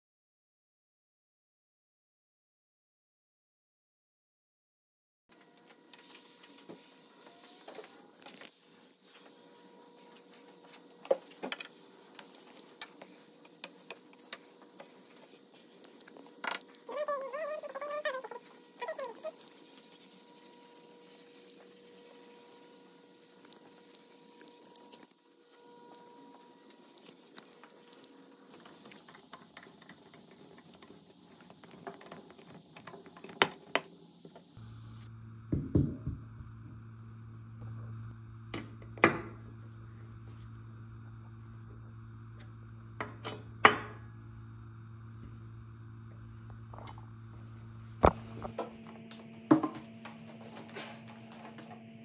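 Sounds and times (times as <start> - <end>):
faint steady hum: 5.3 - 52.0.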